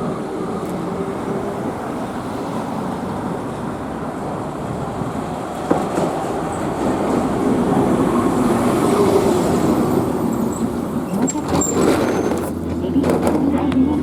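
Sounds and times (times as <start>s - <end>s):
streetcar rumbling on rails: 0.0s - 14.0s.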